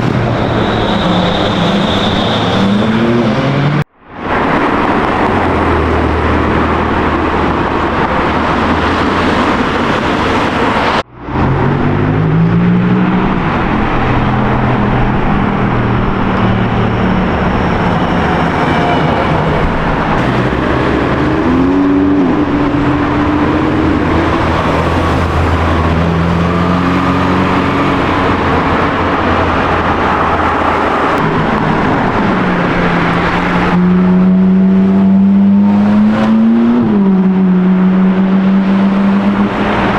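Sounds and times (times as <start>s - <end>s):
sports car engines revving: 0.0s - 39.9s.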